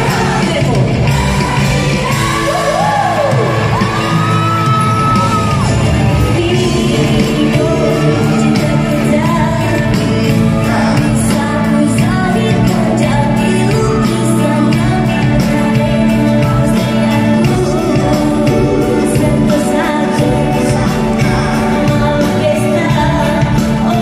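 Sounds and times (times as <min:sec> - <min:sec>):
live band playing: 0:00.0 - 0:24.0
person singing: 0:00.0 - 0:24.0
steady drum beat: 0:00.0 - 0:24.0.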